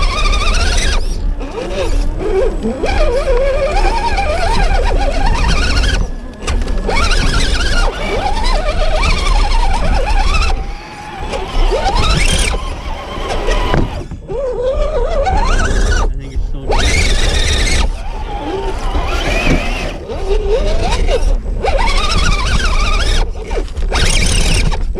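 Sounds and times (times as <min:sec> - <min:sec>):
electric motor whining: 0:00.0 - 0:24.9.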